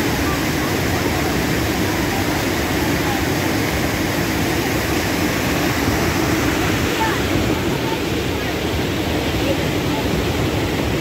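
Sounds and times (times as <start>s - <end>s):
faint voices: 0.0s - 11.0s
water rushing over weir: 0.0s - 11.0s.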